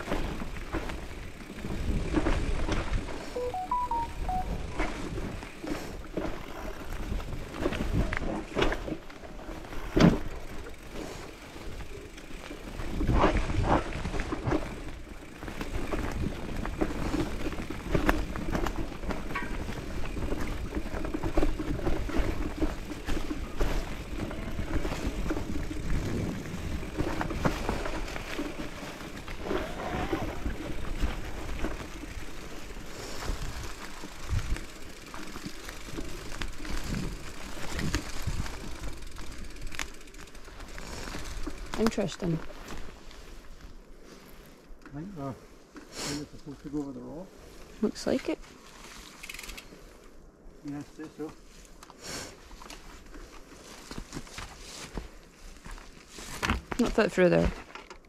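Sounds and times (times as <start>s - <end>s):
bike knocking and rattling: 0.0s - 3.4s, 4.8s - 43.1s, 49.0s - 49.8s, 52.6s - 58.0s
bike tyres rumbling on dirt: 0.0s - 3.4s, 4.3s - 50.0s, 50.6s - 57.9s.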